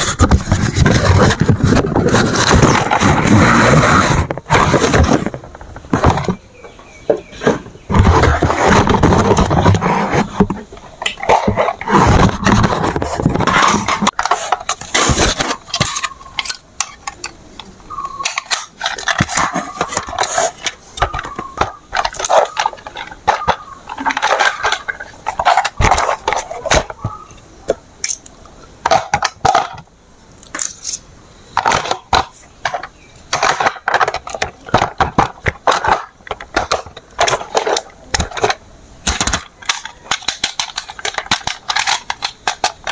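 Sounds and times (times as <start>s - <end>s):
plastic toy parts clattering: 0.0s - 27.0s, 28.0s - 29.8s, 31.6s - 42.9s.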